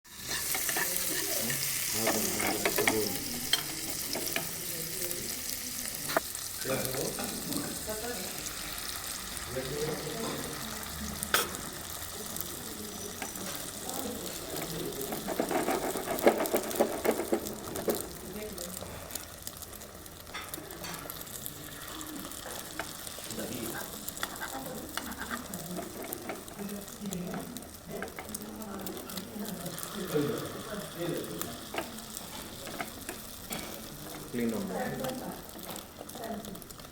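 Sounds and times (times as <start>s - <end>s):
eggs sizzling in a pan: 0.0s - 36.9s.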